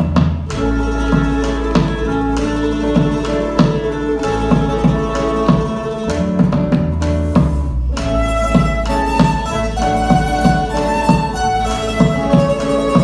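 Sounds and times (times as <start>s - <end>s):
acoustic guitars strumming: 0.0s - 13.0s
deep bass: 0.0s - 13.0s
held melody notes: 0.0s - 13.0s.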